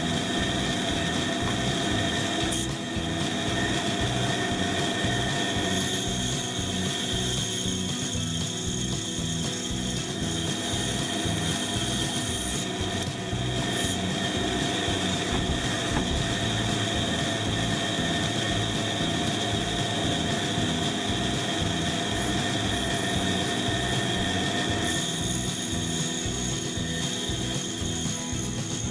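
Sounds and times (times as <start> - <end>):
band saw motor hum: 0.0 - 28.9
saw blade whine: 0.0 - 28.9.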